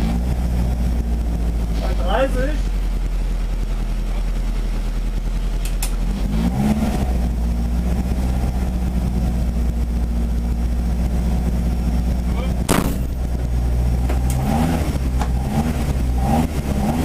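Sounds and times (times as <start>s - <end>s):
car engine idling: 0.0s - 6.1s, 7.1s - 16.9s.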